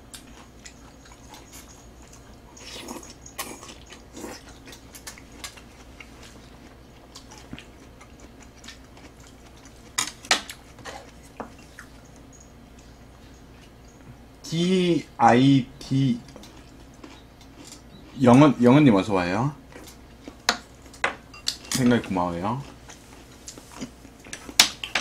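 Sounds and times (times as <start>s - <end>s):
chewing: 0.0s - 14.3s, 16.2s - 18.6s, 19.6s - 25.0s.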